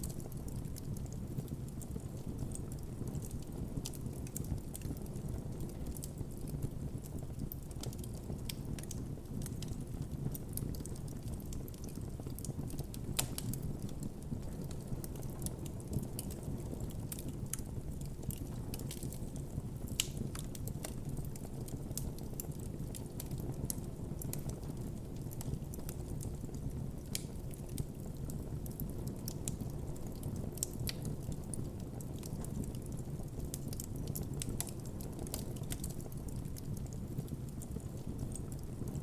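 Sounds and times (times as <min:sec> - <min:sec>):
campfire flames rumbling: 0:00.0 - 0:39.0
fire crackling and popping: 0:00.0 - 0:39.0.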